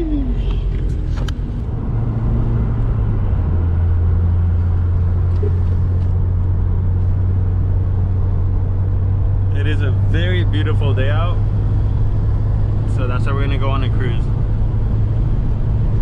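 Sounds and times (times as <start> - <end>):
car engine drone from cabin: 0.0 - 16.0.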